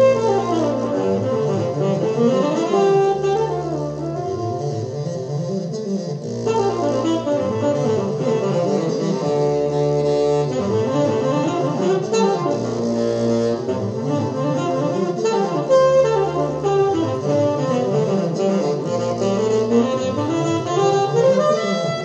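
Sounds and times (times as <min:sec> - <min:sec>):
electric bassoon melody: 0:00.0 - 0:22.0
orchestra: 0:00.0 - 0:22.0.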